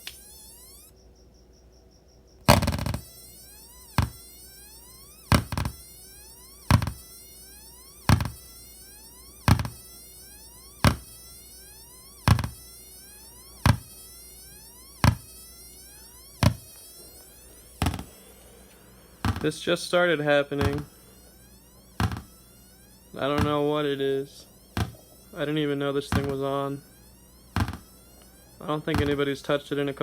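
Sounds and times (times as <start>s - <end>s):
electronic pop with rising chirp: 0.0s - 0.9s, 2.4s - 30.0s
steady electronic hum: 0.0s - 30.0s.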